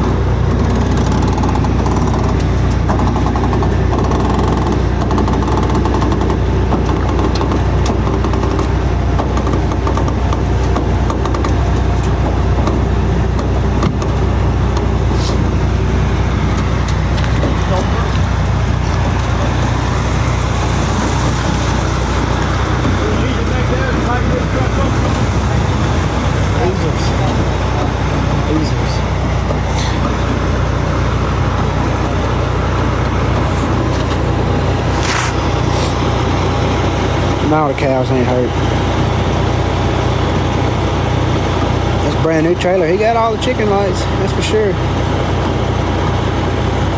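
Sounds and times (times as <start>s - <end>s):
heavy truck engine running: 0.0s - 46.9s.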